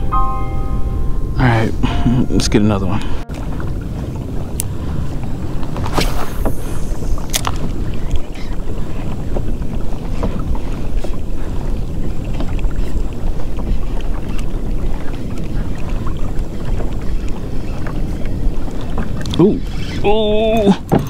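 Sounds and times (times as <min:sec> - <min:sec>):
wind rumbling on microphone: 0:00.0 - 0:21.0
water splashing: 0:01.9 - 0:21.0.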